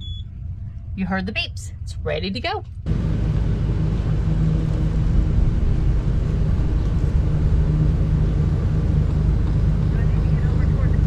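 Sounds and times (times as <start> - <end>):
motorhome engine running: 0.0 - 11.0.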